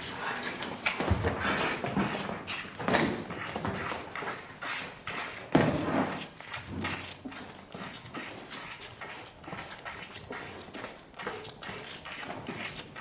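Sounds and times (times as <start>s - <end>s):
calf sucking noises: 0.0s - 13.0s.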